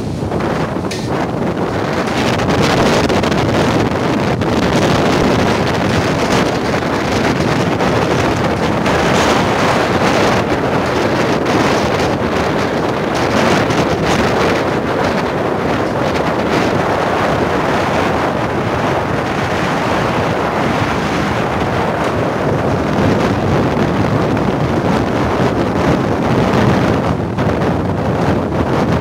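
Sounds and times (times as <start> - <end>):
strong wind buffeting microphone: 0.0 - 29.0
surf breaking: 0.0 - 29.0.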